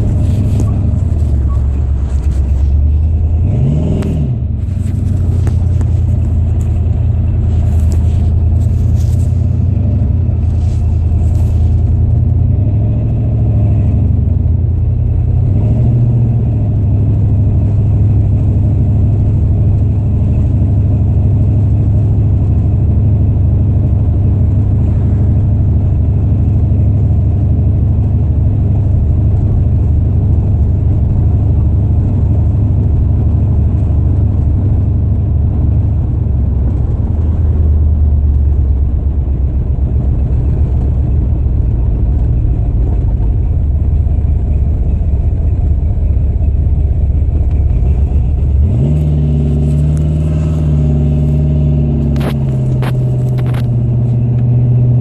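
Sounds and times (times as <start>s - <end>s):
car engine rumble inside cabin: 0.0s - 55.0s.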